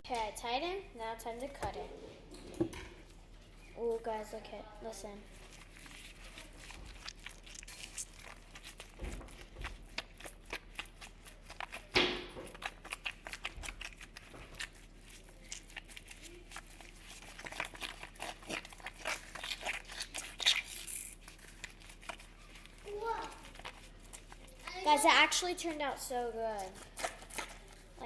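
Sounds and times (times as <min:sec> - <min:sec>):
squishy glove being squeezed: 0:05.0 - 0:28.0.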